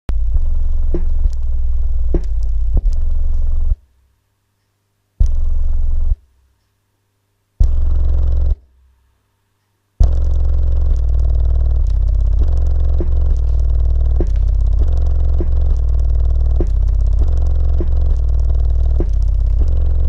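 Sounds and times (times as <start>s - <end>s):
distorted deep bass from subwoofer: 0.1s - 4.1s, 5.2s - 6.5s, 7.6s - 8.9s, 10.0s - 20.0s.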